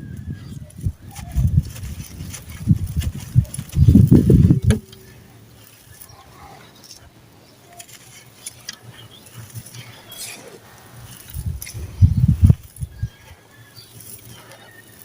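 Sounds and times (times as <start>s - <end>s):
faint crackles and ticks: 0.0s - 15.0s
dry chunks crunching: 0.4s - 6.2s, 7.7s - 15.0s.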